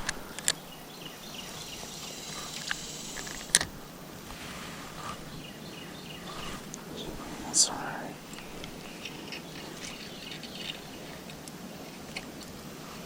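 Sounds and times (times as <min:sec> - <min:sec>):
creek water: 0:00.0 - 0:13.0
insects buzzing: 0:00.0 - 0:13.0.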